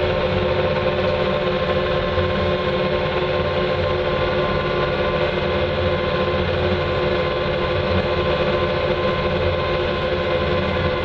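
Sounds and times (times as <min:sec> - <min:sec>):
engine drone with whine: 0:00.0 - 0:11.0.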